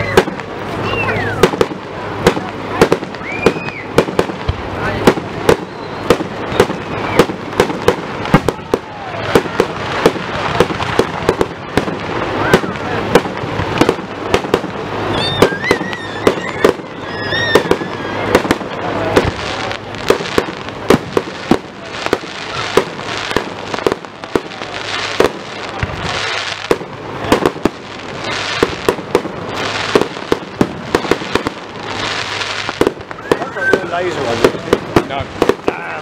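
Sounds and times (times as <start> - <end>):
firework bangs: 0.0 - 36.0.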